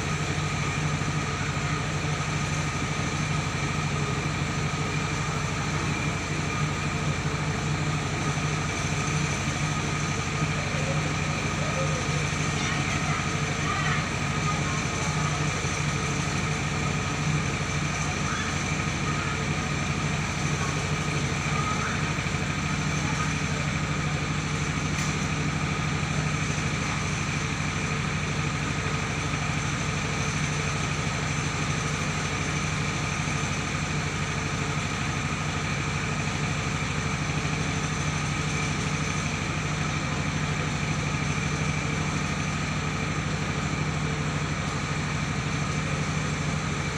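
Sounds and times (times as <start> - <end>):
engine drone: 0.0 - 46.9
mill whining: 0.0 - 46.9.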